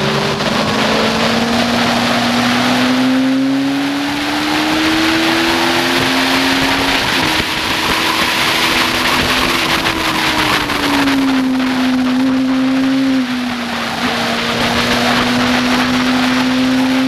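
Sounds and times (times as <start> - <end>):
motorcycle engine at high revs: 0.0 - 17.0
wind rush: 0.0 - 17.0.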